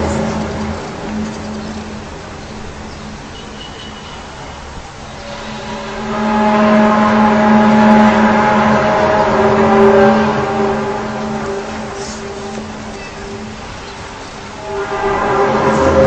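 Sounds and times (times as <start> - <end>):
loud droning tone with overtones: 0.0 - 3.4, 5.2 - 16.0.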